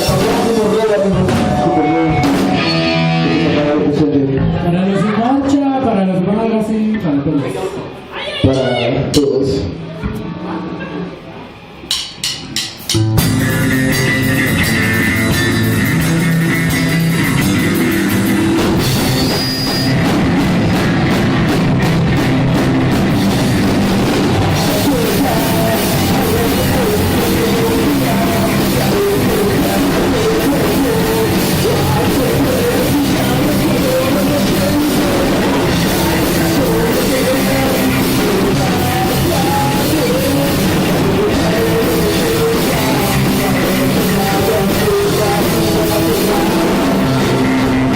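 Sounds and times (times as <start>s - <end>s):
punk rock band playing live: 0.0s - 5.2s, 11.8s - 47.9s.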